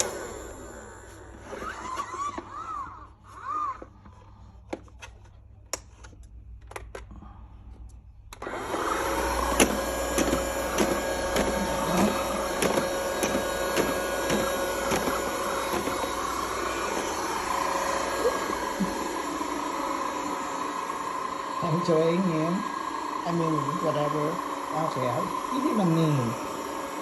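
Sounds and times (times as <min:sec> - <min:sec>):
robot vacuum motor whirring: 0:00.0 - 0:03.9, 0:08.4 - 0:27.0.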